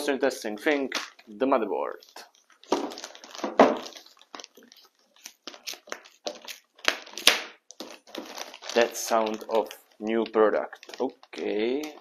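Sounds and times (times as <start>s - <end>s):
plastic bag crackling: 0.7s - 12.0s.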